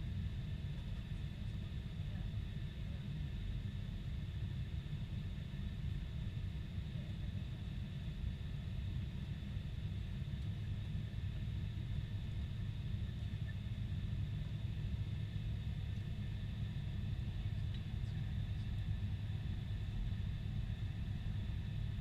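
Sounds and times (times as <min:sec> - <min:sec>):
faint high hum: 0:00.0 - 0:22.0
low aircraft cabin rumble: 0:00.0 - 0:22.0.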